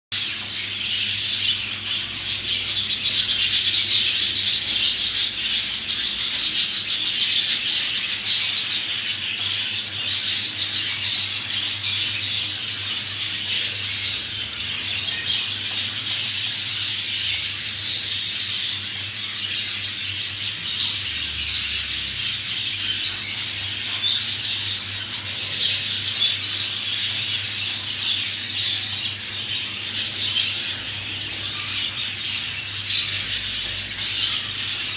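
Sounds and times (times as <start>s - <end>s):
budgerigars chattering and chirping: 0.1s - 34.9s.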